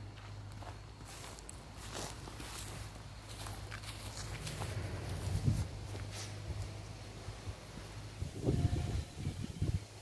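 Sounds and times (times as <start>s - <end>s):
footsteps in dry grass: 0.0s - 8.4s.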